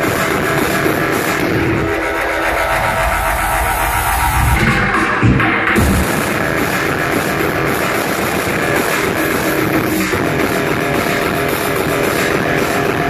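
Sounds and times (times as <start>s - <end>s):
hardcore electronic dance music: 0.0s - 13.0s.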